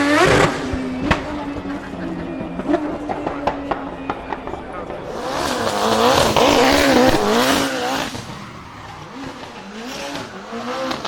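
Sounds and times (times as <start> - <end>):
car engine revving: 0.0 - 11.0
tyres squealing: 0.0 - 11.0.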